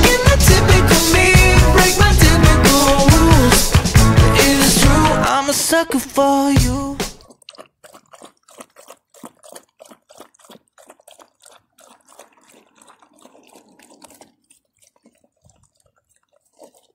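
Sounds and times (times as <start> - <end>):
puppy lapping water: 0.0 - 16.9.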